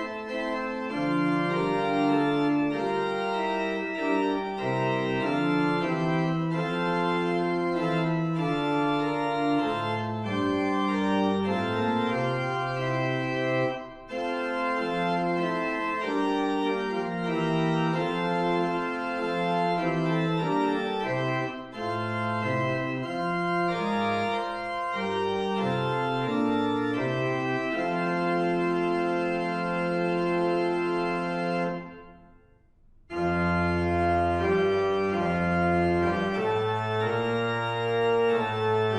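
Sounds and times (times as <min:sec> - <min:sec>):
organ playing held chords: 0:00.0 - 0:32.3, 0:33.1 - 0:38.9.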